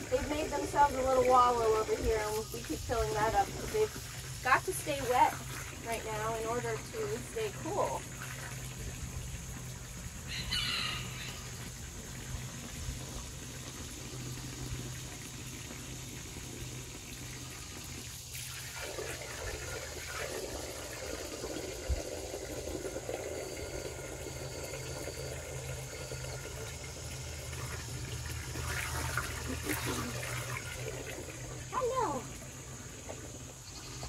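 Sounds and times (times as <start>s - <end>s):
hose water splashing into tub: 0.0s - 34.0s.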